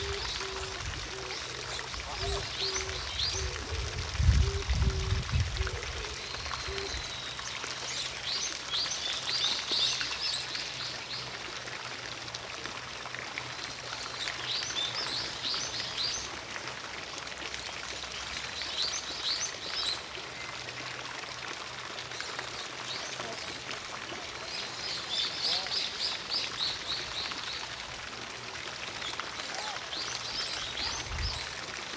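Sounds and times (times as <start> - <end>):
distant fountain splashing: 0.0 - 31.9.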